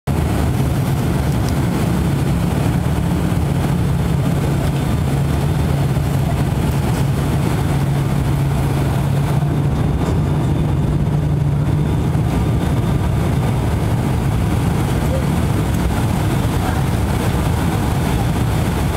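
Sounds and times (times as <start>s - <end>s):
airliner cabin propeller drone: 0.1s - 18.9s.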